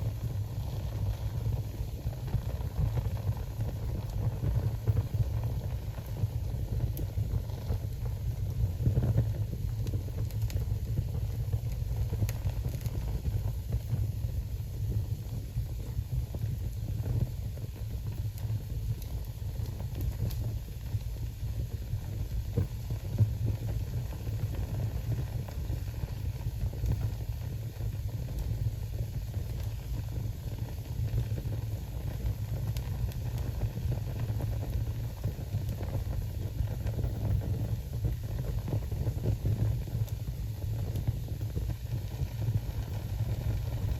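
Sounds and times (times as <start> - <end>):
fire crackles and pops: 0.0 - 43.9
fire flames rumbling: 0.0 - 43.9.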